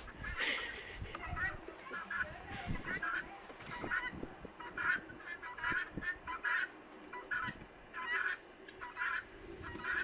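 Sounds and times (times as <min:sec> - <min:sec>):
guineafowl calling: 0:00.0 - 0:10.0.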